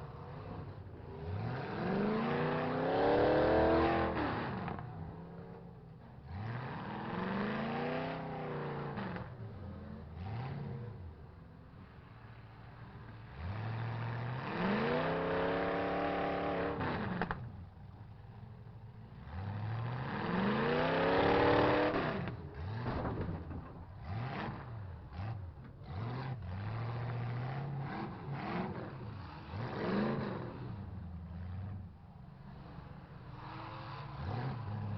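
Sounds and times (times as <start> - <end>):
truck engines revving: 0.0 - 34.9.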